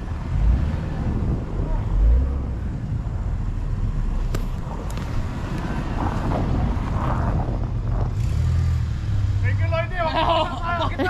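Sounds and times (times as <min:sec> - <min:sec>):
wind rumble on microphone: 0:00.0 - 0:09.4.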